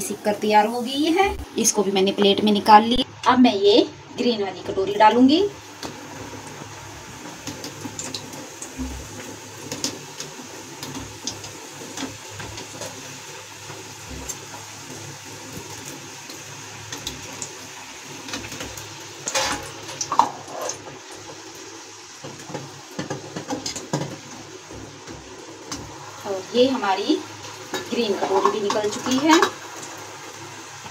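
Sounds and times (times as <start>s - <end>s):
oil bubbling and sizzling: 0.0s - 30.9s.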